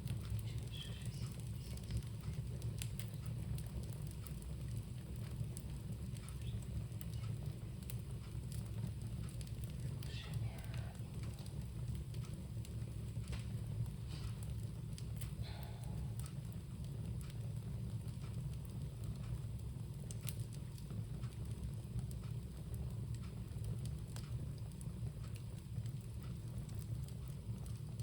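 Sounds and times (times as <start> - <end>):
bonfire crackling and popping: 0.0 - 28.0
low fire rumble: 0.0 - 28.0.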